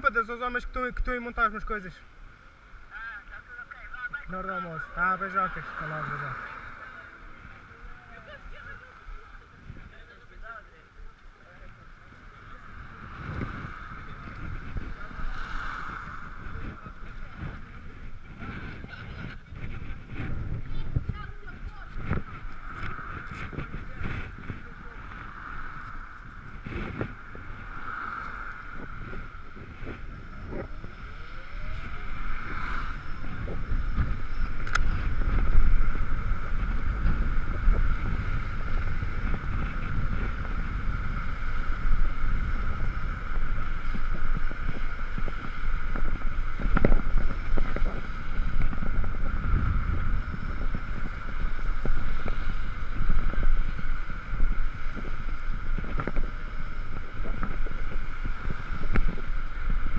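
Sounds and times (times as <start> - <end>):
wind buffeting microphone: 0.0 - 59.9
scooter road noise rumble: 2.0 - 59.9.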